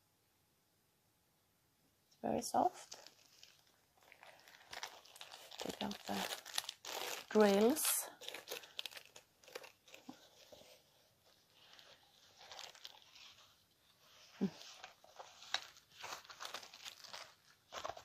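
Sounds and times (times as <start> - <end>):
rustling and crinkling wrapping: 2.6 - 18.0.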